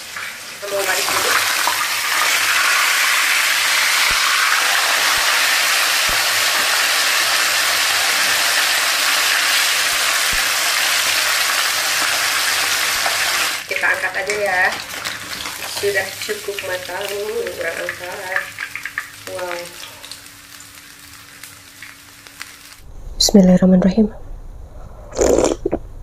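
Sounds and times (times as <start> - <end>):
fish sizzling in hot oil: 0.0 - 22.8.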